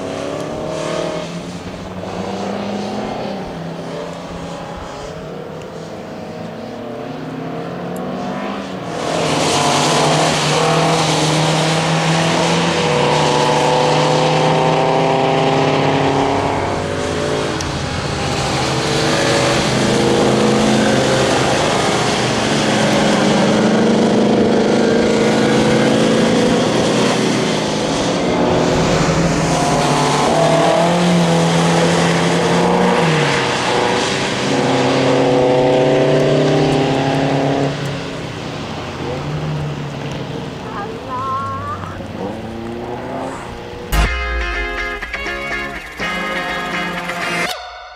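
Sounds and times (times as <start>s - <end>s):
racing car engines revving: 0.0s - 44.1s.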